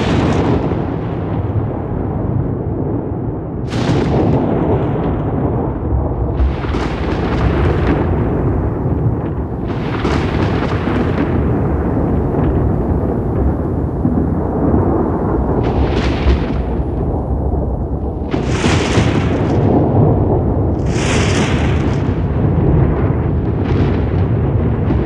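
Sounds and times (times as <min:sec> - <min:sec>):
crackling thunder peals: 0:00.0 - 0:25.0
rolling thunder: 0:00.0 - 0:25.0.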